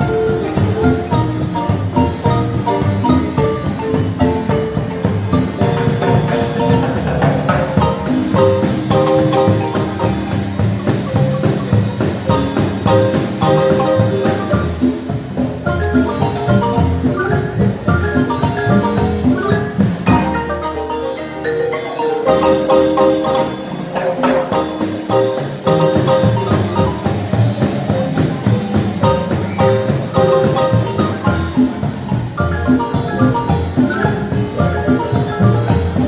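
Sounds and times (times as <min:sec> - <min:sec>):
marimba bass notes: 0:00.0 - 0:36.0
marimba melody: 0:00.0 - 0:36.0
percussion beat: 0:00.0 - 0:36.0.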